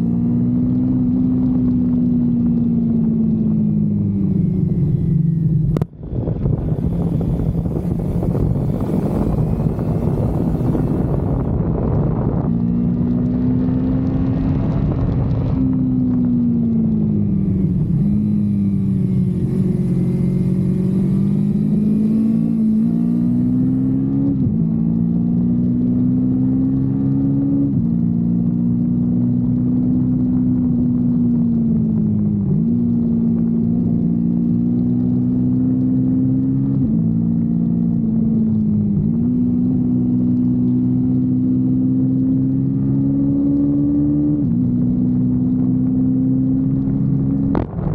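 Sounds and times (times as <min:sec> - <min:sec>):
motorcycle engine while riding: 0:00.0 - 0:47.9
wind rush over microphone: 0:01.5 - 0:47.9.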